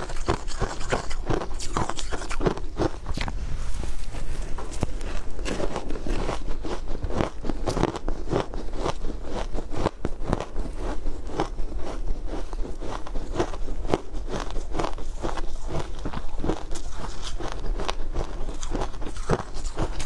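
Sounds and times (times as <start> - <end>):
crunchy ice being chewed: 0.0 - 20.0.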